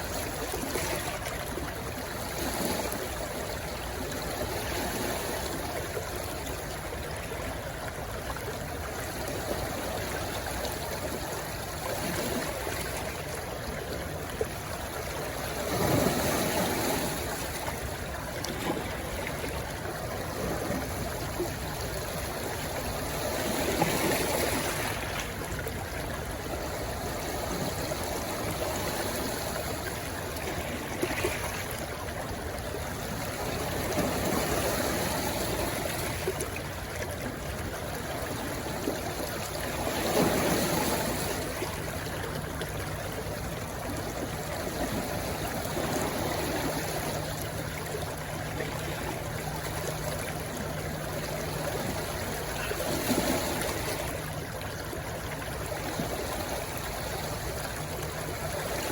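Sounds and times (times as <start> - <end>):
stream rushing: 0.0 - 58.9.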